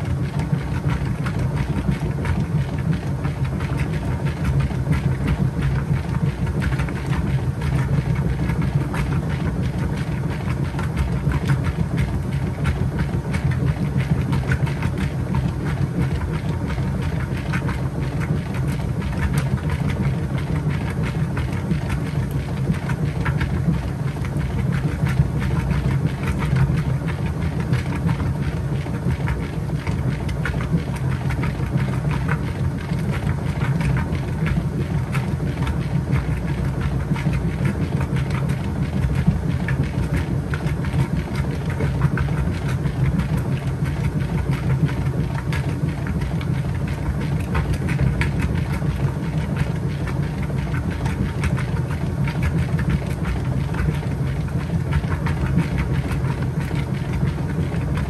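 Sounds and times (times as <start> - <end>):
small irregular clicks: 0.0 - 58.0
washing machine motor hum: 0.0 - 58.0.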